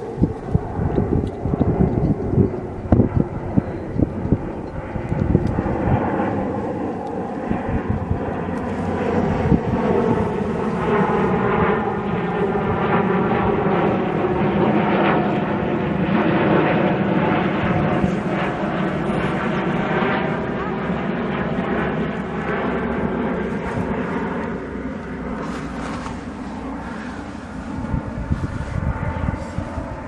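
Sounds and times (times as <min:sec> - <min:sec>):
steady engine drone: 0:00.0 - 0:30.0.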